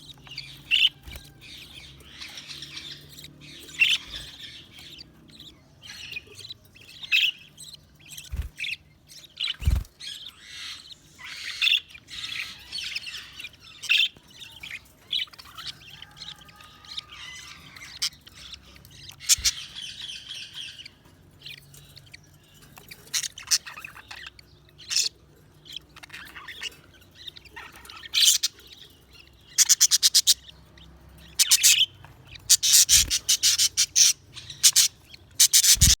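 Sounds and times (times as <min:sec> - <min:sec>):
budgerigars chirping and trilling: 0:00.0 - 0:36.0.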